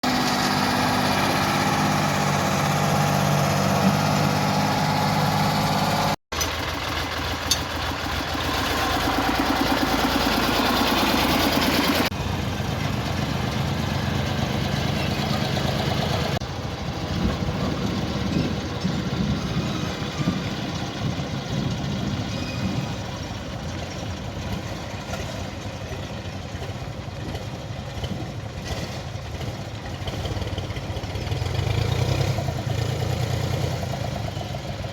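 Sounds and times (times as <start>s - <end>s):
heavy diesel engines running: 0.0s - 34.9s.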